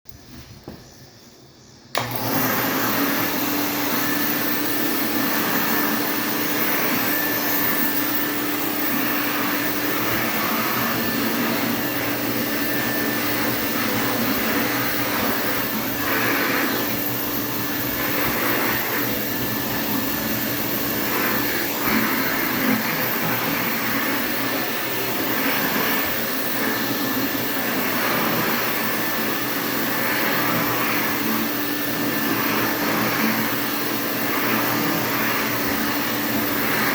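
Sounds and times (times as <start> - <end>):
vacuum cleaner running: 0.1 - 36.9.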